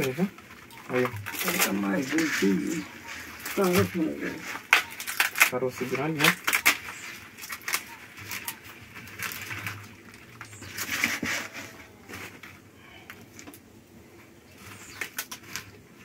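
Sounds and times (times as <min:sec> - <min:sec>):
rustling and light clicks: 0:00.0 - 0:16.0.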